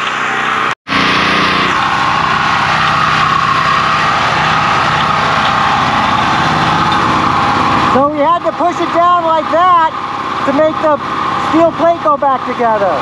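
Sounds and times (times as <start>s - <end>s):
generator running: 0.0s - 13.0s.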